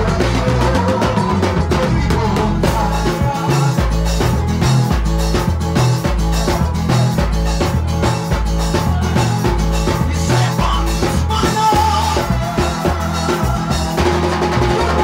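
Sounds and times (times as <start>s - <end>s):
bass line: 0.0s - 15.0s
drums with cymbals: 0.0s - 15.0s
electric guitar: 0.0s - 15.0s.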